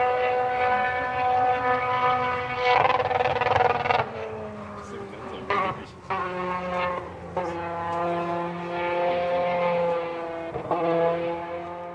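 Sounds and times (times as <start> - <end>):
rally car engine high revs: 0.0 - 11.9.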